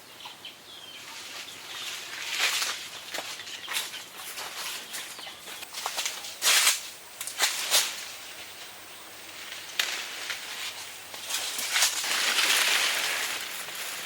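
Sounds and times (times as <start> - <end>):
rustling handling noise: 1.1 - 14.0.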